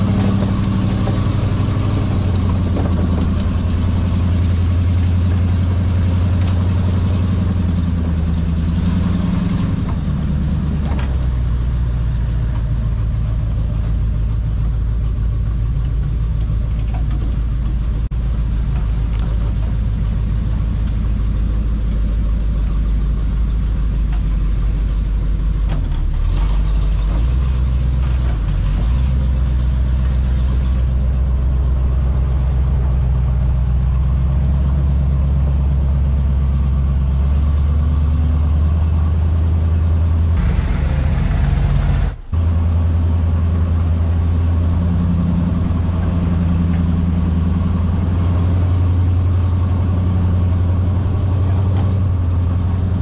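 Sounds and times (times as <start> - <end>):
truck engine running at low revs: 0.0 - 53.0.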